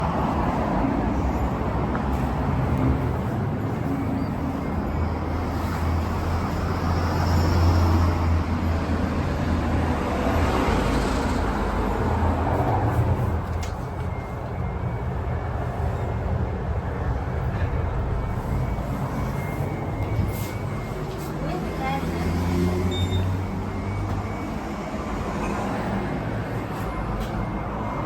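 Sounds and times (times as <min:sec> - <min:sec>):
heavy vehicle engine rumble: 0:00.0 - 0:28.0
road traffic passing: 0:00.0 - 0:28.0.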